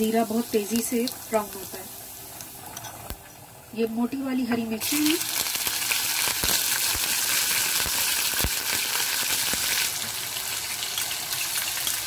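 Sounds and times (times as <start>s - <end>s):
chillies sizzling in oil: 0.0s - 12.0s.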